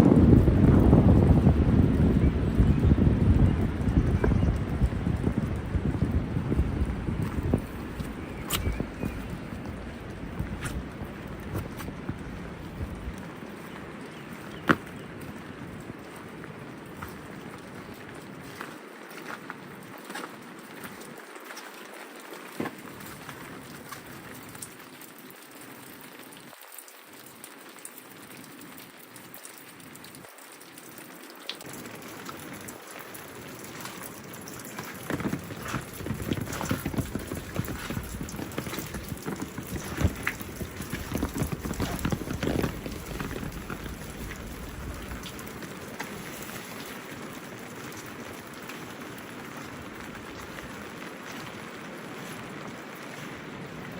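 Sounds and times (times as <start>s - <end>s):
raindrops ticking close by: 0.0s - 53.9s
steady rain falling: 0.0s - 53.9s.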